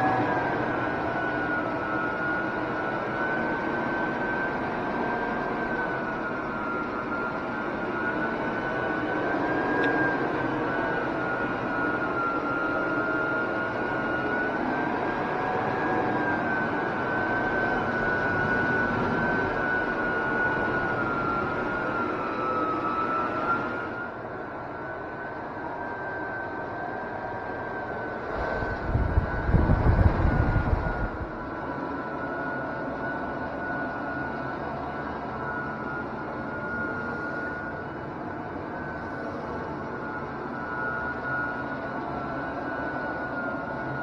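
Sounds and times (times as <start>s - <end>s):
floor burnisher motor whine: 0.0s - 44.0s.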